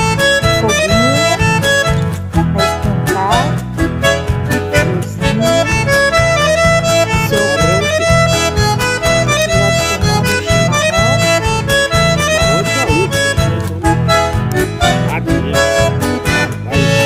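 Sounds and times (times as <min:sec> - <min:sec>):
guitar: 0:00.0 - 0:17.0
reed instrument melody: 0:00.0 - 0:17.0
steady bass beat: 0:00.0 - 0:17.0.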